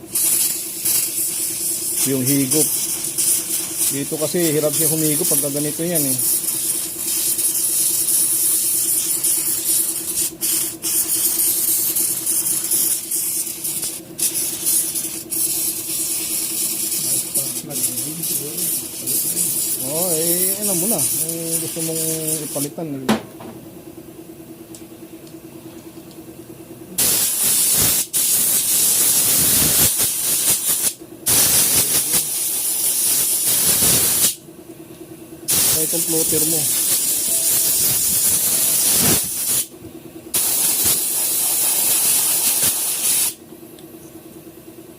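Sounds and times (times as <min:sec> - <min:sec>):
fuel spraying with a hiss: 0:00.0 - 0:22.9, 0:27.0 - 0:34.4, 0:35.4 - 0:43.4
fuel pump humming whine: 0:00.0 - 0:44.9.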